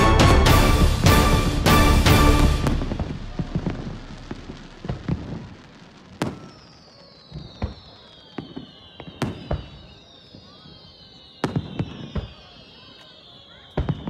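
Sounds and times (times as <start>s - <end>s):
firework shells bursting: 2.2s - 14.0s
falling firework whistles: 2.3s - 14.0s.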